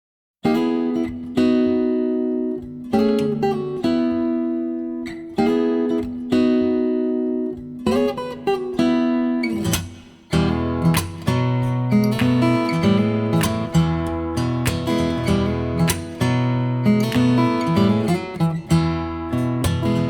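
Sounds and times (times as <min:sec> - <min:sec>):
acoustic guitar chords: 0:00.4 - 0:20.0.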